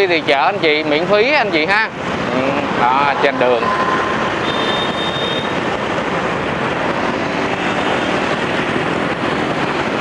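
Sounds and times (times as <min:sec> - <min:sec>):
road noise: 0:00.0 - 0:10.0
wind noise: 0:01.7 - 0:10.0.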